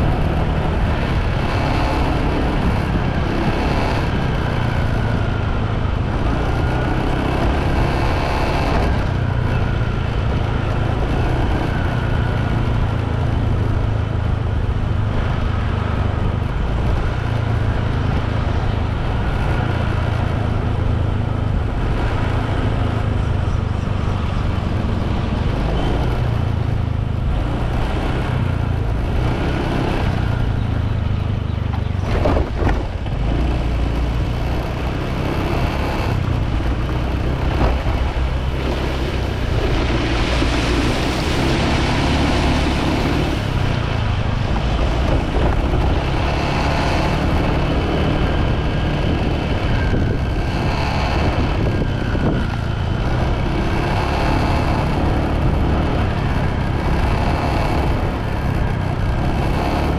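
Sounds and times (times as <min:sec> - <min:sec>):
motorbike engine: 0:00.0 - 0:59.9
wind and road noise: 0:00.0 - 0:59.9.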